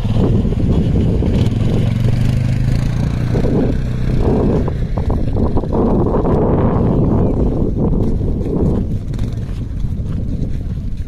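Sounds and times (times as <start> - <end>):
quad bike engine droning: 0.0 - 11.0.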